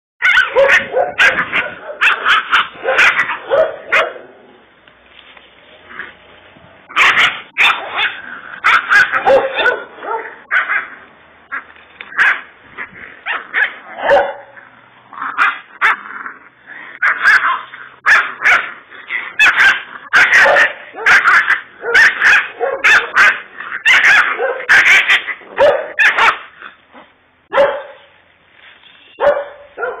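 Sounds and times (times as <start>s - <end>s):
puppy barking and yipping: 0.2s - 4.4s, 6.9s - 16.0s, 17.0s - 28.1s, 29.2s - 30.0s.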